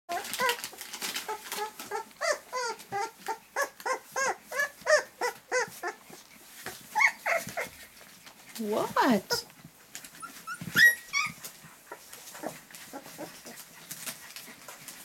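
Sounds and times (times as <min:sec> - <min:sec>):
puppy whimpering: 0:00.1 - 0:15.0.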